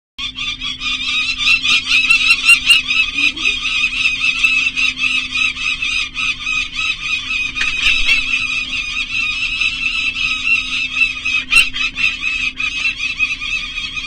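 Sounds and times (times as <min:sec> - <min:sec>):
falcons giving harsh calls: 0:00.2 - 0:14.0
steady low hum: 0:00.2 - 0:14.0.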